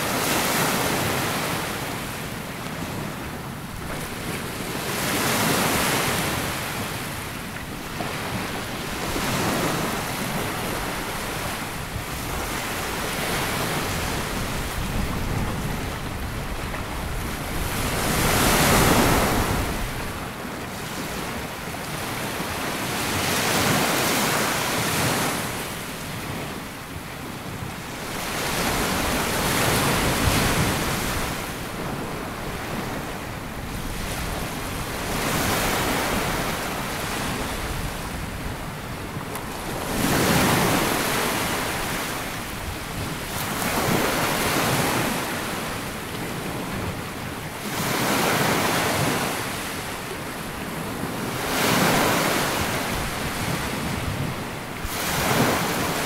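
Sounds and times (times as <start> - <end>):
waves breaking on sandy beach: 0.0 - 56.0.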